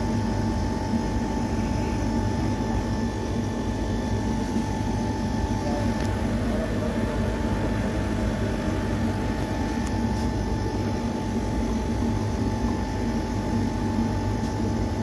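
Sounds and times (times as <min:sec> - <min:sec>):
air conditioner unit humming: 0:00.0 - 0:15.0
steady whine: 0:00.0 - 0:15.0.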